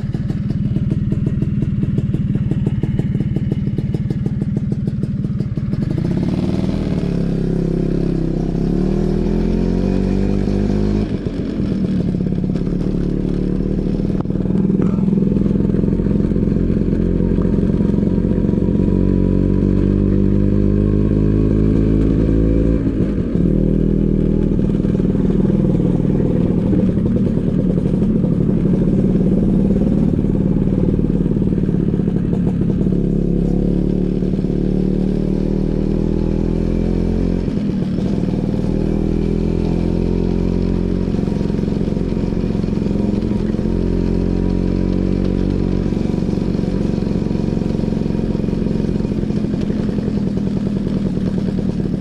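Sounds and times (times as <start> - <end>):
scooter engine droning: 0.0 - 52.0.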